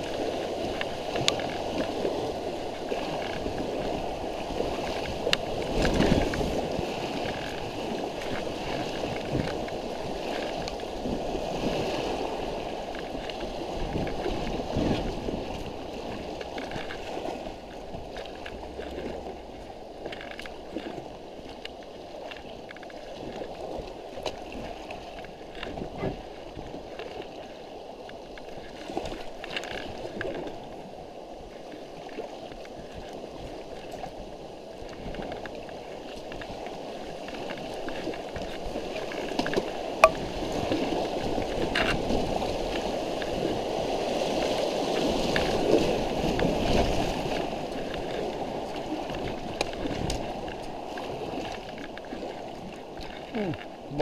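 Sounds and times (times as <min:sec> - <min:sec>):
paddle splashes and knocks: 0:00.0 - 0:54.0
stream water rushing and gurgling: 0:00.0 - 0:54.0.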